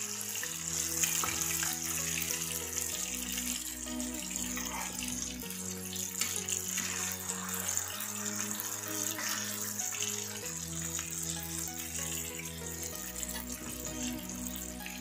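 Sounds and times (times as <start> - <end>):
background music low chords: 0.0 - 15.0
chicken deep-frying in oil: 0.0 - 15.0.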